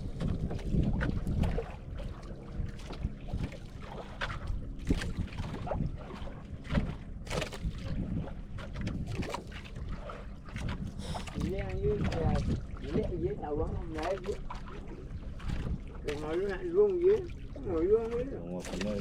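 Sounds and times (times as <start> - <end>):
low rumble of wind and sea: 0.0 - 19.0
water slapping against boat hull: 0.0 - 19.0.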